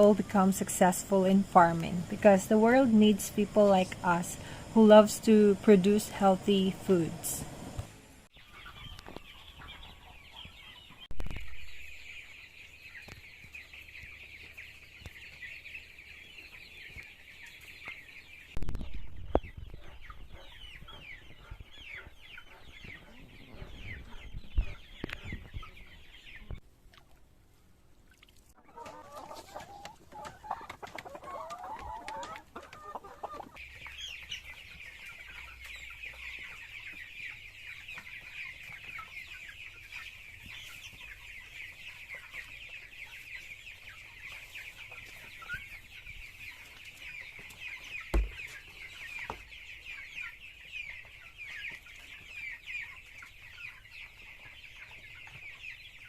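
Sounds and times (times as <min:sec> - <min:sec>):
chorus of high peeping: 0:00.0 - 0:26.6, 0:28.6 - 0:56.0
chickens clucking: 0:00.0 - 0:56.0.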